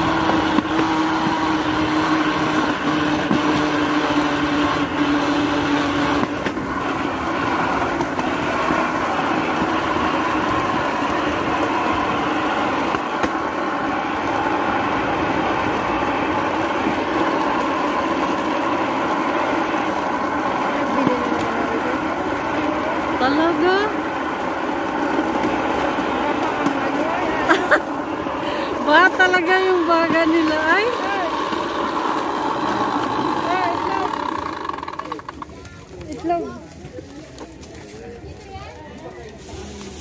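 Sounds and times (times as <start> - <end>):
constant multi-tone hum: 0.0 - 40.0
wheels rumbling on steel rails: 0.0 - 40.0.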